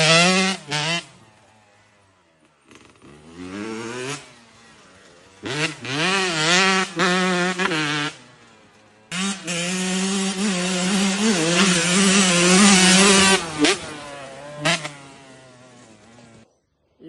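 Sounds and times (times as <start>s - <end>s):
dirt bike engine revving: 0.0s - 16.5s.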